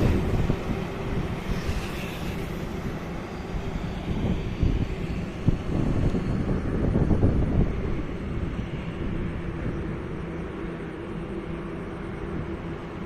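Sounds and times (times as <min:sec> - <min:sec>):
low road rumble: 0:00.0 - 0:13.0.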